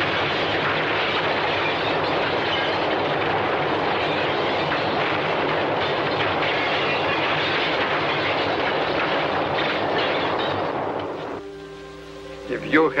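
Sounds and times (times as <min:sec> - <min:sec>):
earthquake rumbling and crashing debris: 0:00.0 - 0:11.5.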